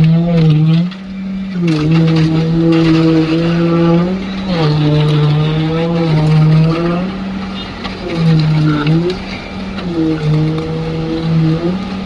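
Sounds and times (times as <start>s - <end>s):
concrete pump engine humming: 0.0s - 12.0s.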